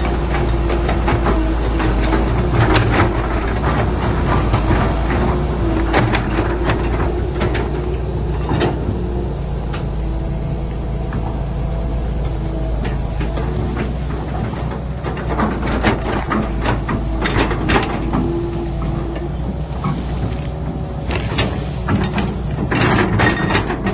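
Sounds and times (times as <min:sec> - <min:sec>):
excavator engine rumbling: 0:00.0 - 0:23.9.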